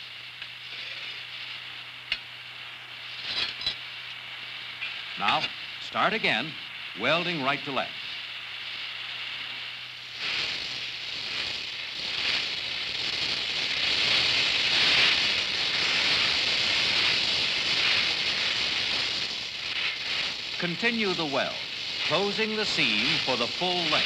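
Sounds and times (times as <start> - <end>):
welding torch flame hissing: 0.0 - 24.0.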